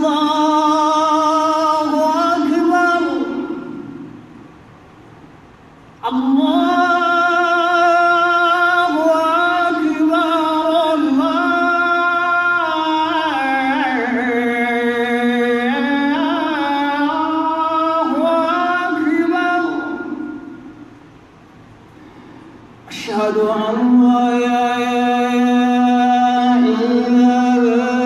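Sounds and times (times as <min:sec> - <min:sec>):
man chanting call to prayer: 0:00.0 - 0:04.2, 0:06.0 - 0:20.7, 0:22.9 - 0:28.0.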